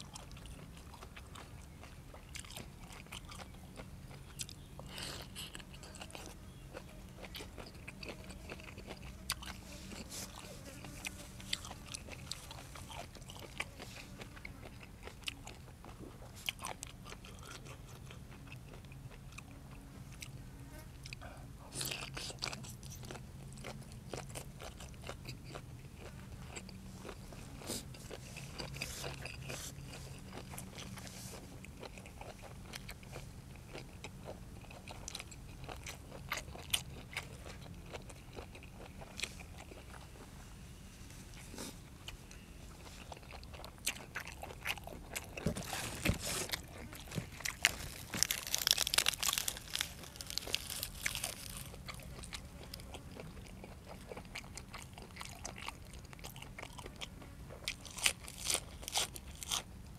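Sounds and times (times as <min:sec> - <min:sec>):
person crunching and chewing food: 0:00.0 - 0:40.3, 0:41.3 - 0:59.9.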